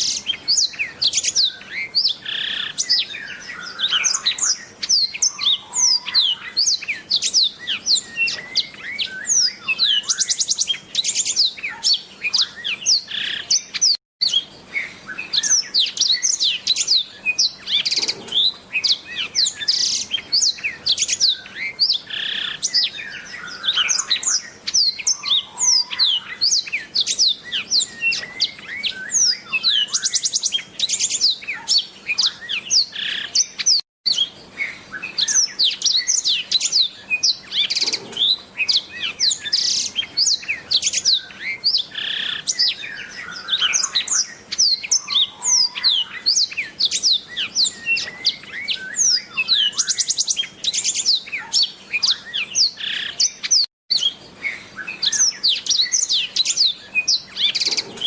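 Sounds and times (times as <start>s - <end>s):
bird singing whistled notes: 0.0s - 58.0s
buzzy bird trills: 0.0s - 58.0s.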